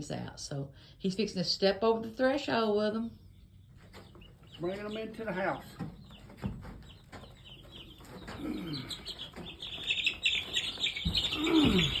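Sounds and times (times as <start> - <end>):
chicks peeping: 1.9 - 12.0.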